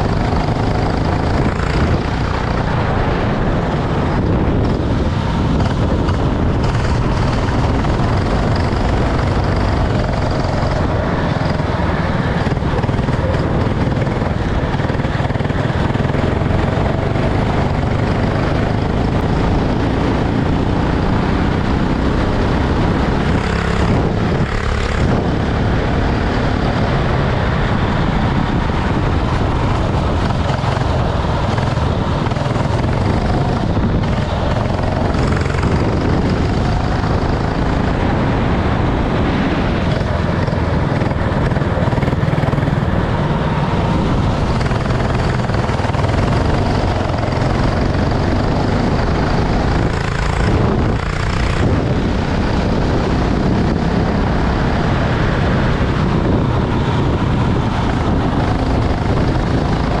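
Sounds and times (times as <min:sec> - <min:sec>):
kart engine running hard: 0:00.0 - 1:00.0
wind and road noise: 0:00.0 - 1:00.0.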